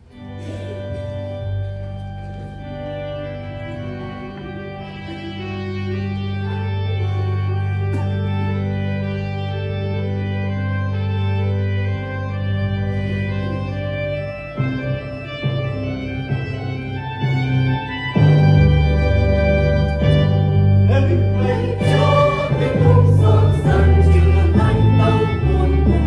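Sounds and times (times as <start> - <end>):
organ playing sustained chords: 0.0 - 26.0.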